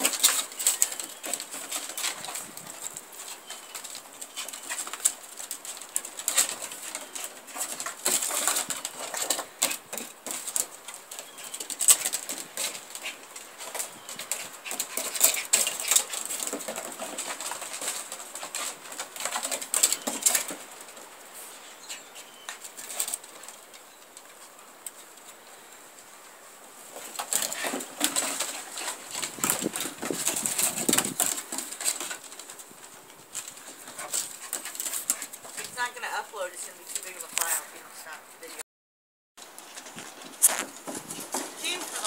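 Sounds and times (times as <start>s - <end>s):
puppy paws clicking on wood: 0.0s - 26.1s, 26.8s - 38.6s, 39.4s - 42.0s.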